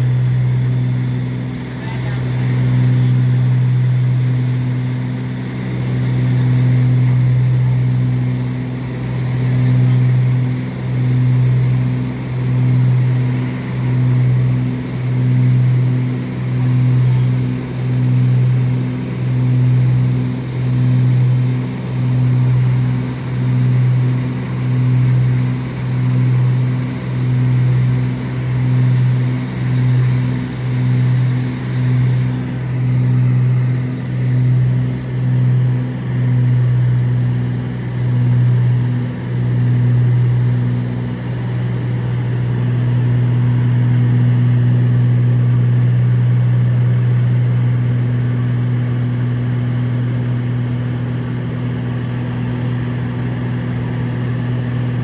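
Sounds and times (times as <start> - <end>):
propeller aircraft cabin drone: 0.0 - 55.0.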